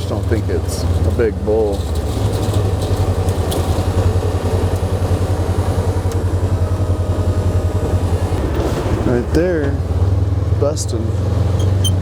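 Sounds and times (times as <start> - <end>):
vehicle engine low throb: 0.0 - 12.0.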